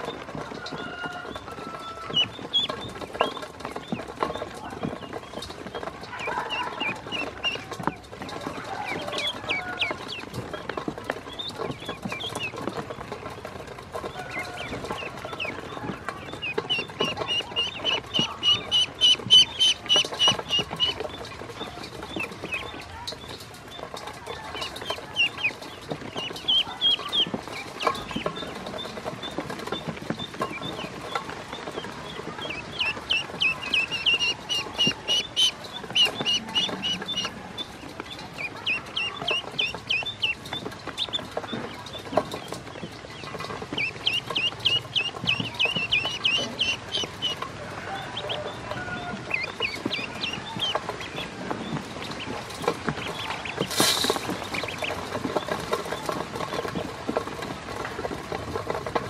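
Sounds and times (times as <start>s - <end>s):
ducklings peeping: 0.0s - 59.0s.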